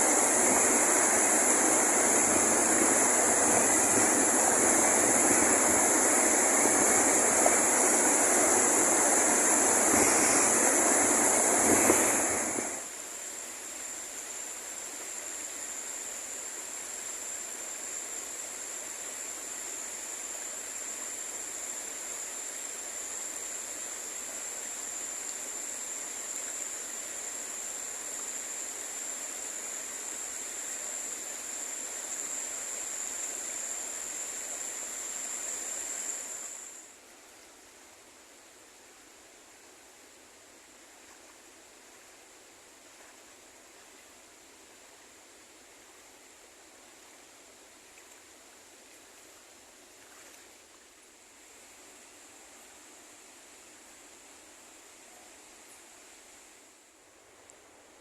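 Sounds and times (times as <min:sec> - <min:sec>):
rushing water: 0:00.0 - 0:37.0, 0:38.0 - 0:58.0.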